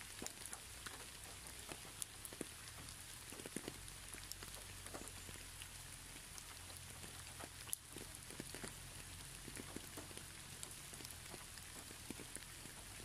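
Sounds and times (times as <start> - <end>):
rain on plants: 0.0 - 13.0
raindrops ticking: 0.0 - 13.0.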